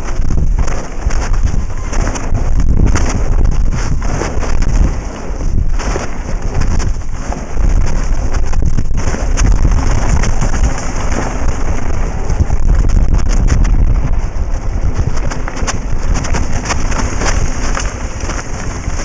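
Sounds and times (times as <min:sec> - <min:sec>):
bike rattling over bumps: 0:00.0 - 0:19.0
wind buffeting microphone: 0:00.0 - 0:19.0.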